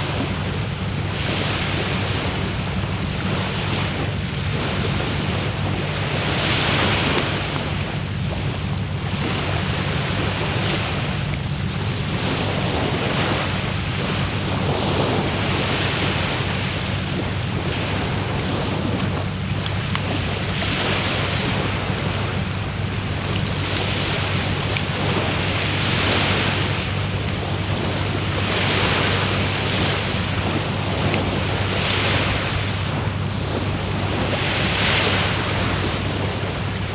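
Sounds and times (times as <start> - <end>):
fire crackles: 0.0 - 34.4
campfire flames rushing: 0.0 - 36.9.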